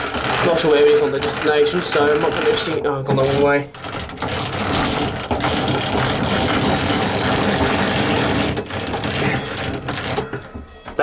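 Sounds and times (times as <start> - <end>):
ratcheting clatter of crank winder: 0.0 - 10.6.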